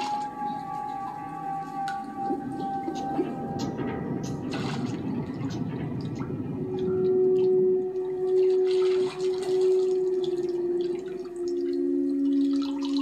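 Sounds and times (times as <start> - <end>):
shower water running and dripping: 0.0 - 13.0
steady film score note: 0.0 - 13.0.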